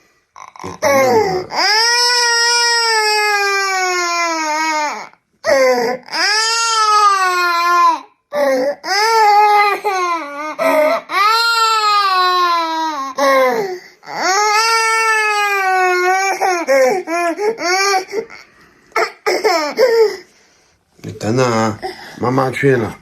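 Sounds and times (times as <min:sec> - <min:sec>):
toddler crying: 0:00.4 - 0:20.2.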